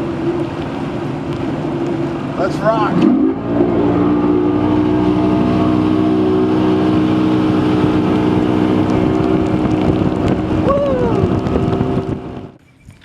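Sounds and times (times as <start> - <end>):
outboard motor running: 0.0 - 12.6
continuous rushing noise: 0.0 - 13.0.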